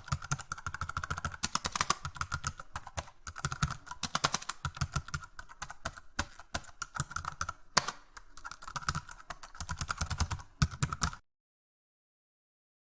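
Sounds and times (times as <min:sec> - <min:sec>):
fast typing on keyboard: 0:00.0 - 0:11.2.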